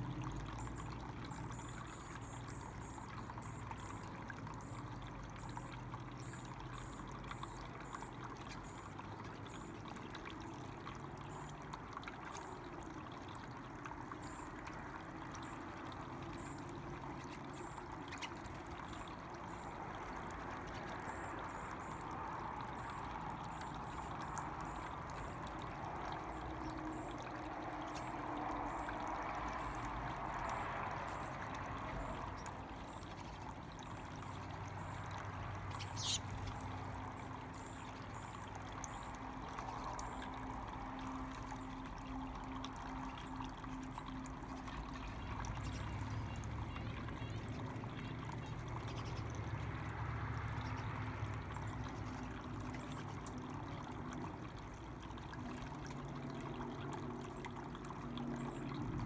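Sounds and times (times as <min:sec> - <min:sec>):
tabletop fountain water trickling: 0:00.0 - 0:59.0.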